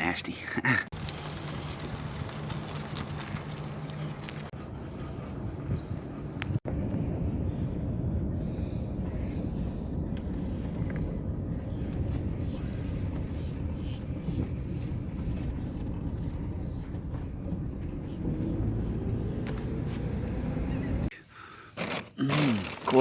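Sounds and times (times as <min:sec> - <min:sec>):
truck engine and road rumble: 0:00.0 - 0:23.0.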